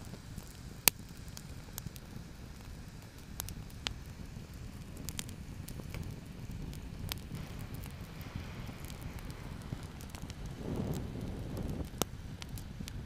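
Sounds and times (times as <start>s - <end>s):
low steady rumble: 0.0s - 13.0s
sharp pop of fire: 0.0s - 13.0s
wood fire crackling: 0.0s - 13.0s.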